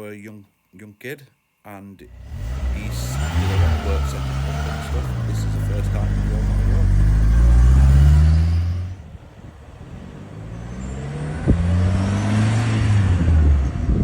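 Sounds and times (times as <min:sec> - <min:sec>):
car engine accelerating: 0:02.1 - 0:14.0.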